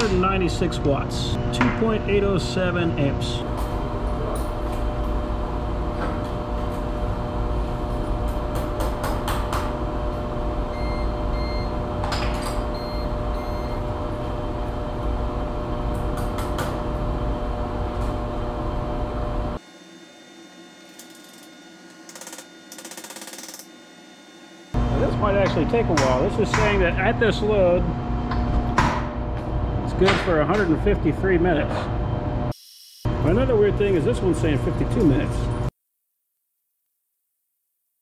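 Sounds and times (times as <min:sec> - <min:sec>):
steady electrical hum: 0:00.0 - 0:19.6, 0:24.1 - 0:35.7.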